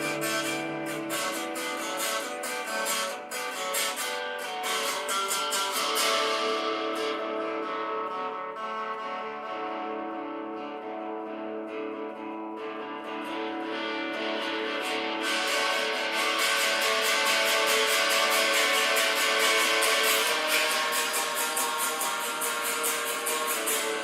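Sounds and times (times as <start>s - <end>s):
guitar strumming: 0.0s - 24.0s.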